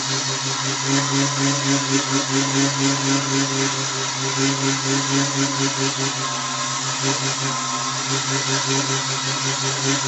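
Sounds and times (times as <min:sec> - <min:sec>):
lathe motor humming: 0:00.0 - 0:10.0.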